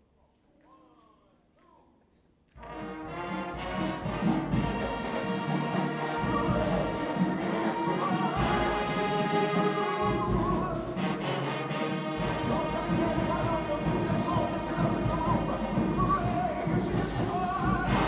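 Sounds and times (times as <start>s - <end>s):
marching band brass and woodwinds: 2.6s - 18.0s.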